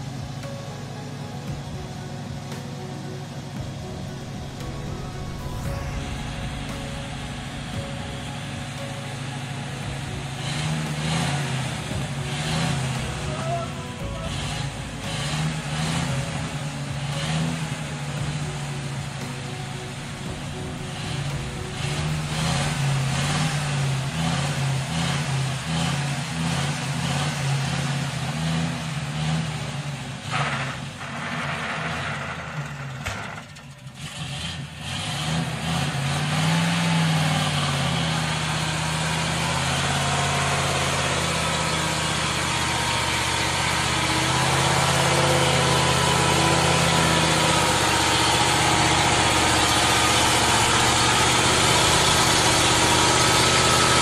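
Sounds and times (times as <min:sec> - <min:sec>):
truck engine running under load: 0:00.0 - 0:54.0.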